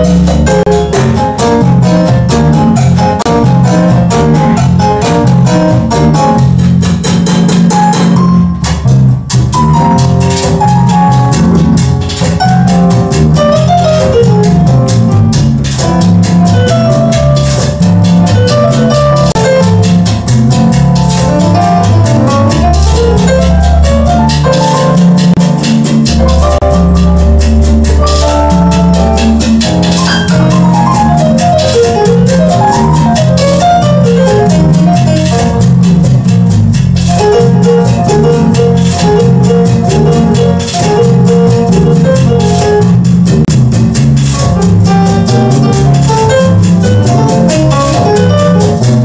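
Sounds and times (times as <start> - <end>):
congas: 0.0 - 49.0
electric bass guitar: 0.0 - 49.0.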